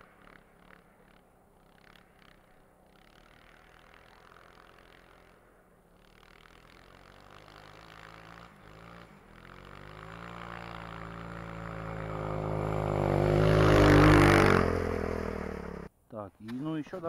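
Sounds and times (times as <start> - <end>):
motorcycle engine passing by: 0.0 - 15.9.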